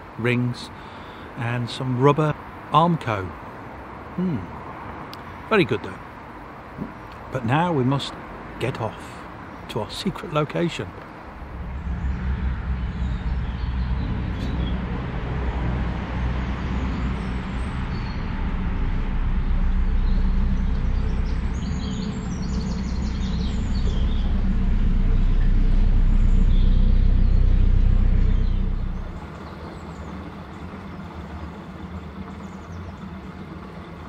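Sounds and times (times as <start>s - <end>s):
boat diesel engine rumbling: 0.0s - 34.0s
birds chirping: 6.6s - 34.0s.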